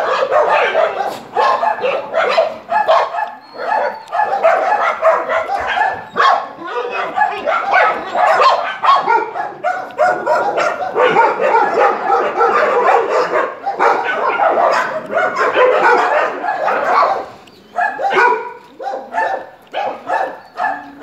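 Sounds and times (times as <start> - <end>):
dogs barking: 0.0 - 21.0.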